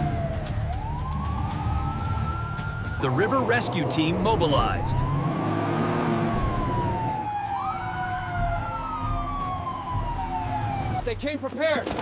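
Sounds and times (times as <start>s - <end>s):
siren wailing: 0.0s - 11.1s.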